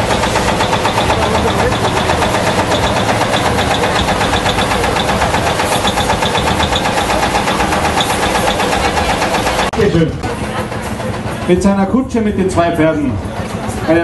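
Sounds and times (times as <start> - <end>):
tractor engine knocking: 0.0 - 11.6.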